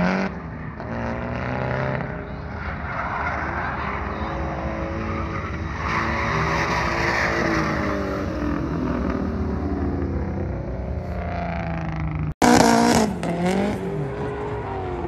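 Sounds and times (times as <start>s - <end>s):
car engine revving: 0.0s - 15.0s
tires hissing and screeching: 0.0s - 15.0s.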